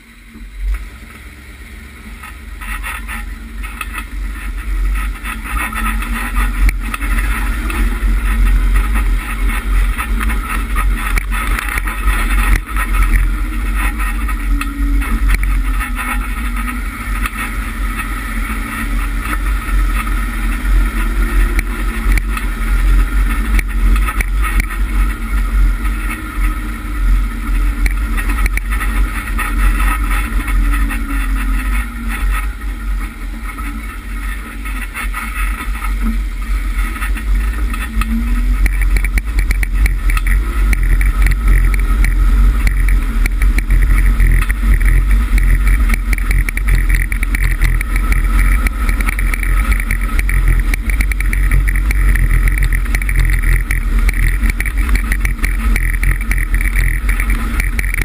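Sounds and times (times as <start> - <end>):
suv engine running: 0.0 - 58.0
wind rumble on microphone: 0.0 - 58.0
tyres rolling over gravel: 0.7 - 58.0.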